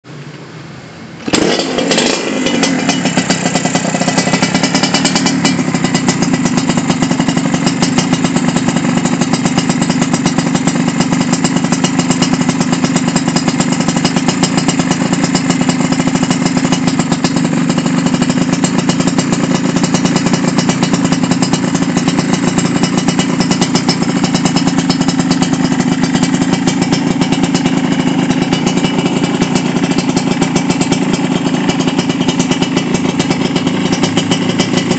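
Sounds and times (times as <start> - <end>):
two-stroke motorcycle engine idling: 1.2 - 34.9.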